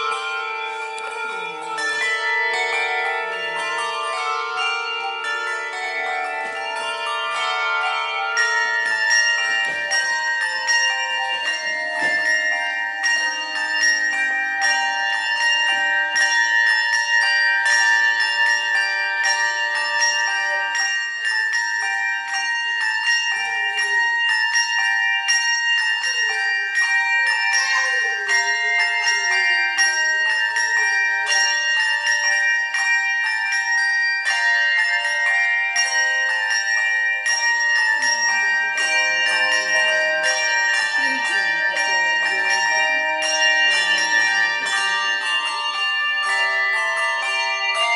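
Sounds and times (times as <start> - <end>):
handbell choir playing: 0.0 - 47.9.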